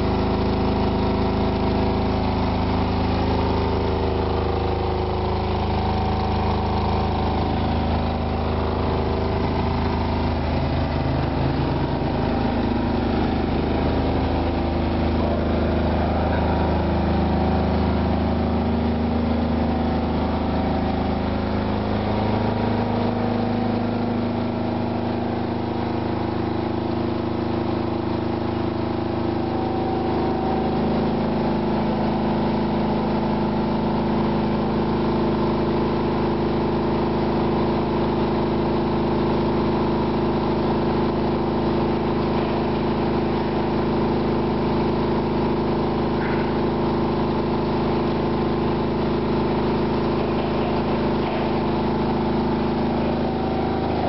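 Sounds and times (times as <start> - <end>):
diesel generator running: 0.0 - 54.0.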